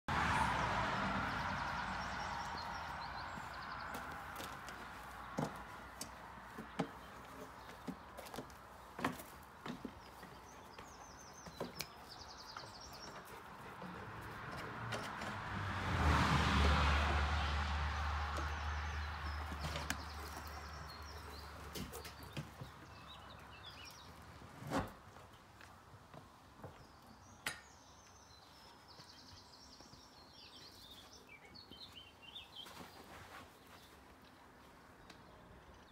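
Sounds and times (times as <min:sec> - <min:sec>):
birds chirping: 0:01.2 - 0:15.4, 0:18.2 - 0:24.4, 0:26.6 - 0:35.9.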